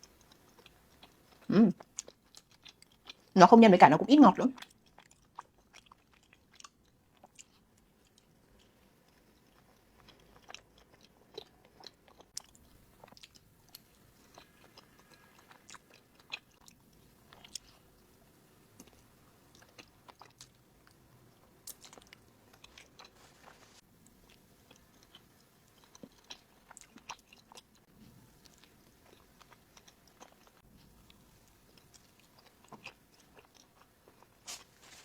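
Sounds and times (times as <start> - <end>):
soft chewing: 0.0 - 3.4, 4.6 - 35.0.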